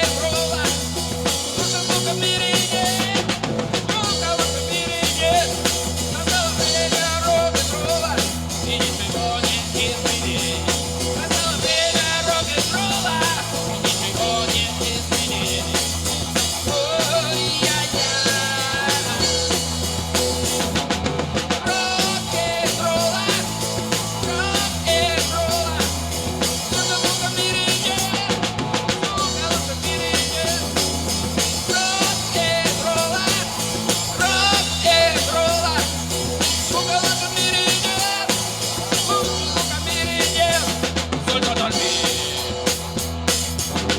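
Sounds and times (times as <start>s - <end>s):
drum kit beat: 0.0s - 43.9s
live rock band playing: 0.0s - 43.9s.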